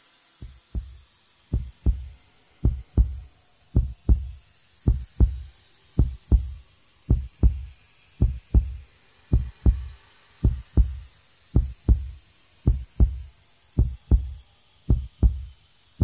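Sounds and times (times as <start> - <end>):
heartbeat thumps: 0.4 - 15.6.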